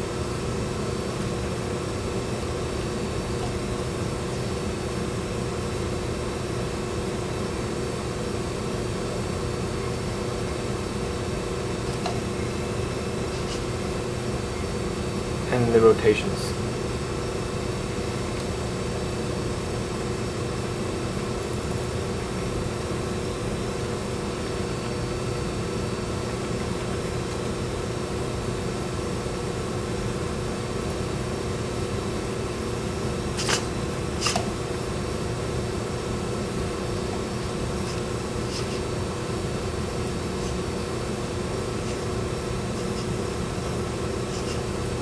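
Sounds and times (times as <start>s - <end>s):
fan-like mechanical hum: 0.0s - 45.0s.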